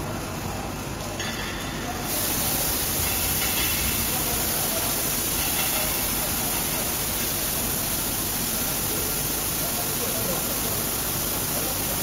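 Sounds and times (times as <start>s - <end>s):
production line machinery hissing: 0.0s - 12.0s.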